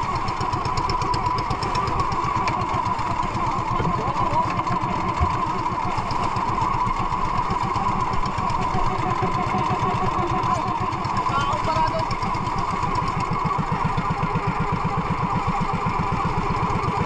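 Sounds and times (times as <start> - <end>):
small boat engine running: 0.0 - 17.0.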